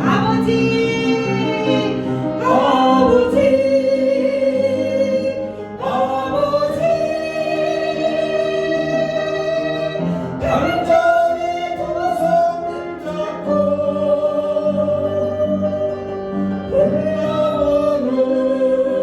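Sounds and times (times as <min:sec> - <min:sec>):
congregation singing: 0:00.0 - 0:19.0
instrumental accompaniment: 0:00.0 - 0:19.0.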